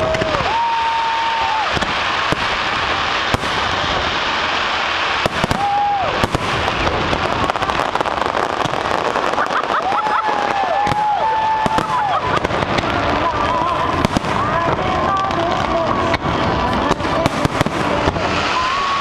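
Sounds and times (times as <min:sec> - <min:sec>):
fireworks bangs: 0:00.0 - 0:19.0
fireworks crackling and popping: 0:00.0 - 0:19.0.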